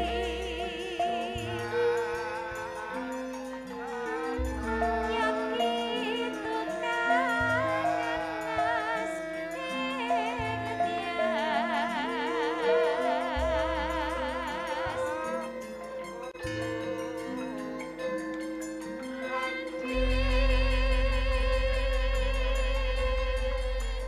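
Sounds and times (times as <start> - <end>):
woman singing with vibrato: 0.0 - 16.6, 19.0 - 24.0
metallophones playing melody: 0.0 - 24.0.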